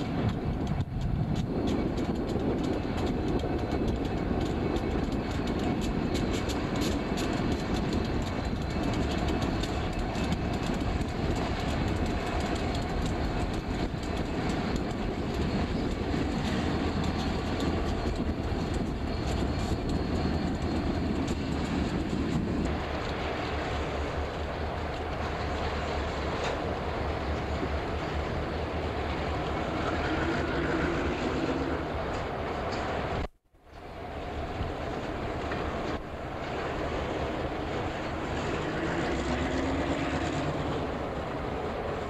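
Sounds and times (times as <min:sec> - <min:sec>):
diesel locomotives running: 0:00.0 - 0:42.0
wheels clacking on rails: 0:00.0 - 0:42.0.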